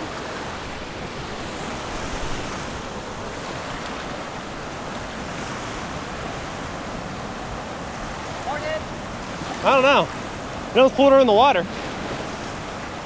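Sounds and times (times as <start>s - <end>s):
surf washing over a beach: 0.0s - 13.0s.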